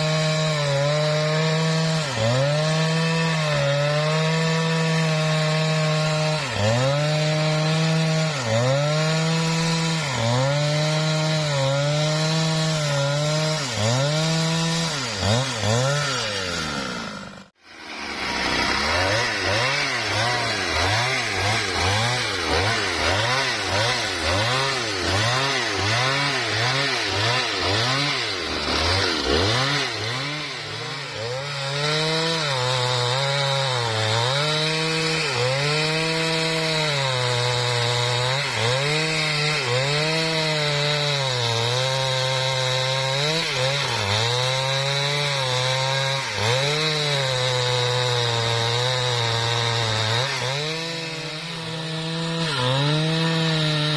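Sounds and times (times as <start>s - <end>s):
chainsaw cutting through log: 0.0s - 53.9s.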